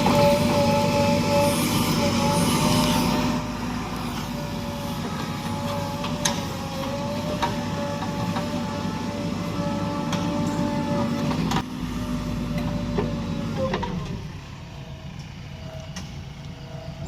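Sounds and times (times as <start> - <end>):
diesel engine whining and rumbling: 0.0 - 17.0.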